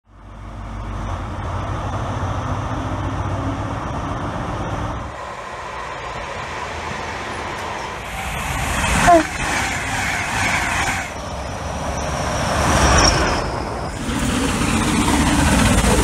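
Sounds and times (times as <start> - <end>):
diesel engine humming: 0.1 - 16.0
electric train rushing past: 0.3 - 16.0.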